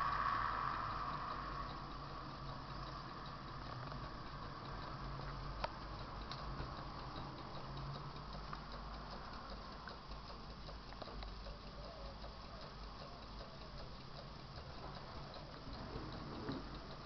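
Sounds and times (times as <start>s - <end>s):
engine mechanism ticking: 0.0s - 17.0s
steady background hiss: 0.0s - 17.0s.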